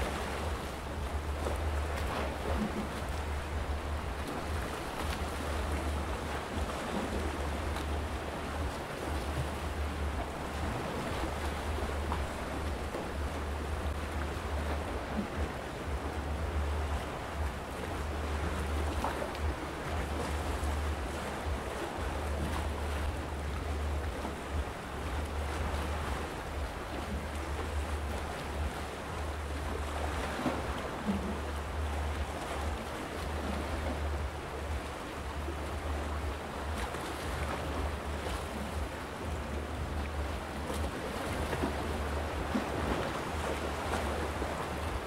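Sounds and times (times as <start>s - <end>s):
sea waves washing on rocks: 0.0s - 45.0s
wind rumble on microphone: 0.0s - 45.0s.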